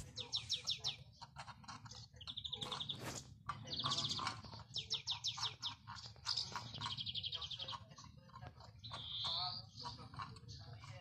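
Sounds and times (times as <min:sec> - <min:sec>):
songbirds trilling and chirping: 0:00.0 - 0:11.0.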